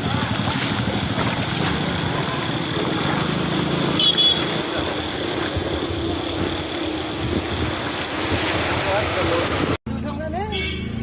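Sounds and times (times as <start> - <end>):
motor engine running: 0.0 - 9.8
wind noise: 0.0 - 9.8.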